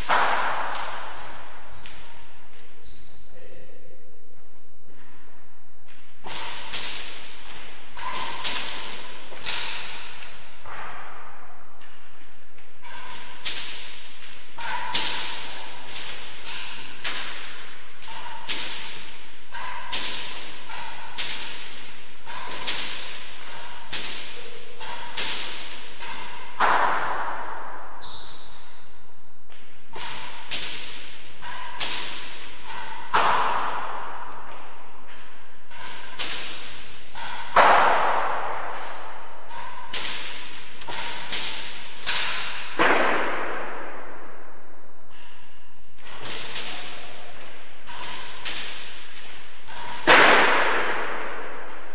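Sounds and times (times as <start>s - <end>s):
ball cracking off racquets and walls: 0.0s - 3.1s, 5.8s - 51.9s.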